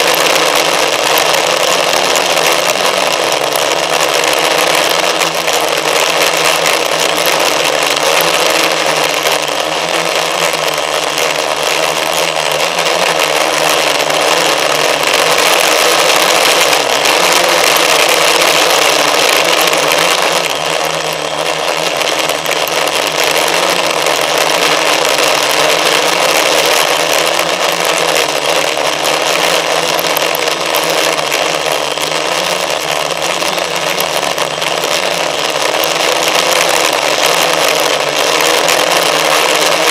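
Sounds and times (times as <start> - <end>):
motor running steadily: 0.0 - 39.9.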